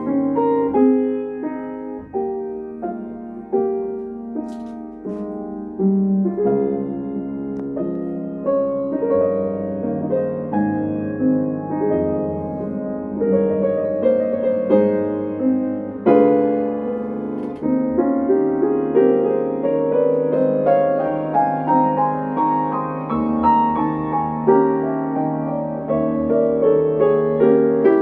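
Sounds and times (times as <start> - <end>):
grand piano playing chords: 0.0 - 28.0.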